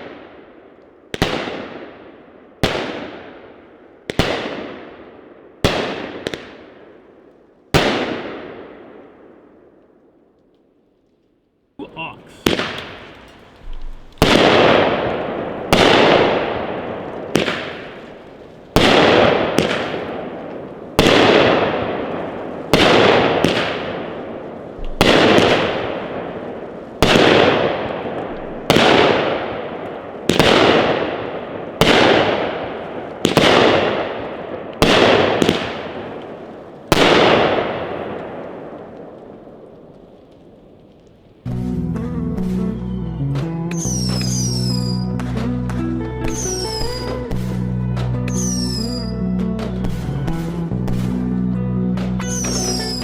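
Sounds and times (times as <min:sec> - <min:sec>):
firework bangs with hiss: 0:01.1 - 0:02.0, 0:02.6 - 0:05.0, 0:05.6 - 0:06.9, 0:07.7 - 0:09.0, 0:11.9 - 0:41.5, 0:43.7 - 0:45.5, 0:46.2 - 0:51.3, 0:52.2 - 0:53.0.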